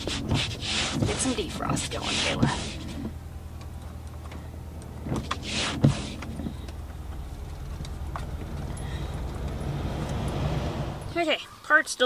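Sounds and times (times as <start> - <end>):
truck engine idling: 0.0 - 11.4.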